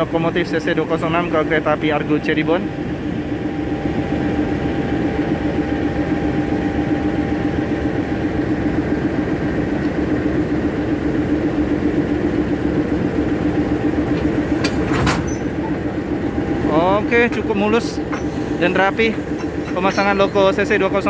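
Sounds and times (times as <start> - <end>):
locomotive engine droning: 0.0 - 21.0.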